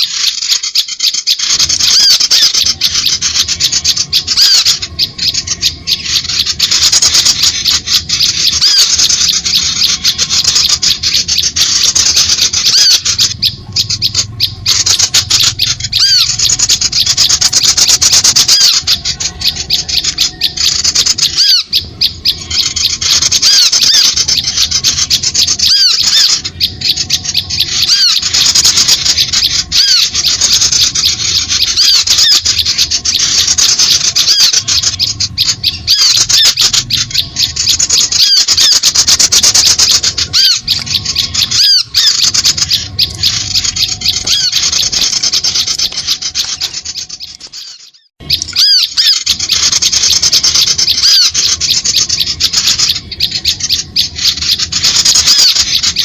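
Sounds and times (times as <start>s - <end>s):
songbirds chattering and chirping: 0.0s - 56.0s.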